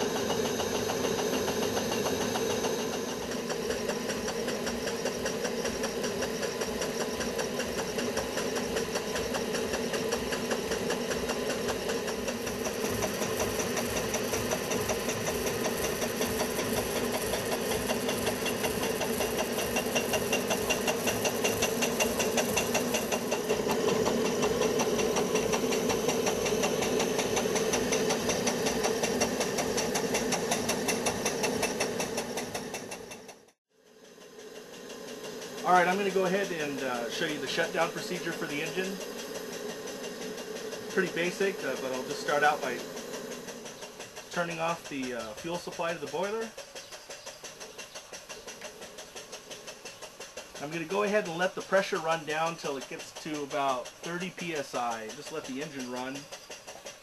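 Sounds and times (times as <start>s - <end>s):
model steam engine exhaust beats: 0.0s - 57.0s.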